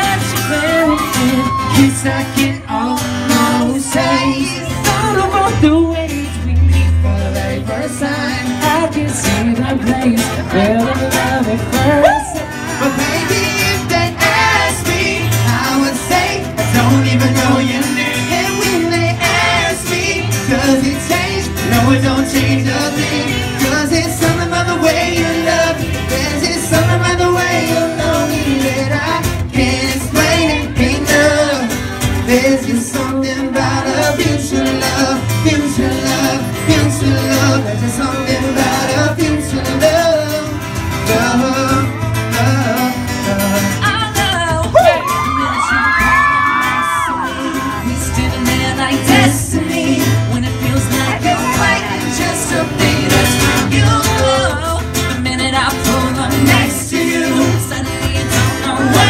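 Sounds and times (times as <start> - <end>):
boy band singing pop song: 0.0 - 59.0.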